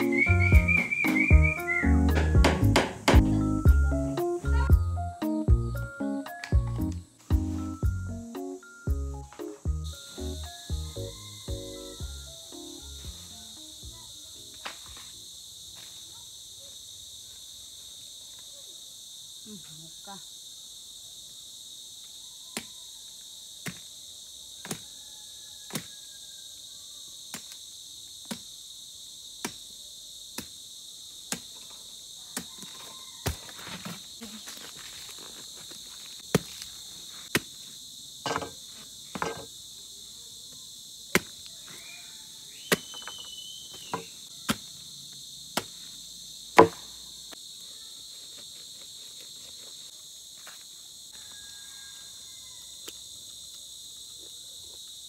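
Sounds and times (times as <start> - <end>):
high drone of insects: 0.0 - 55.0.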